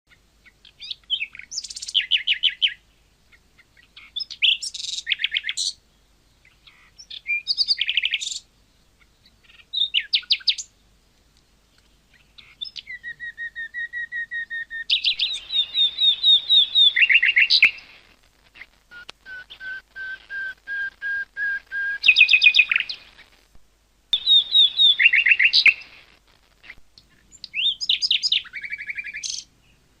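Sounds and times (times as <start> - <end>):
nightingale singing: 0.1 - 11.0, 11.7 - 23.4, 24.1 - 30.0.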